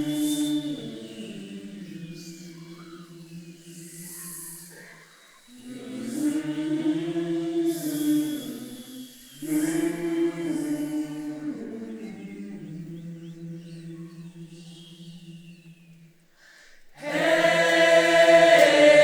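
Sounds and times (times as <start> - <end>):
a cappella choir singing: 0.0 - 16.3, 16.9 - 19.0.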